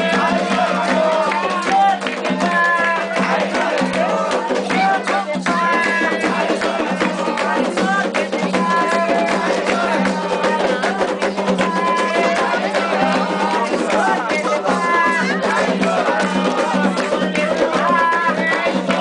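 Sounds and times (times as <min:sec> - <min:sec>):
chorus of voices singing: 0:00.0 - 0:19.0
fast hand drum rhythm: 0:00.0 - 0:19.0.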